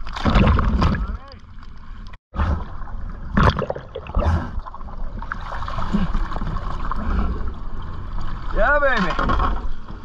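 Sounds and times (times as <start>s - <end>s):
water splashing against boat: 0.0s - 10.0s.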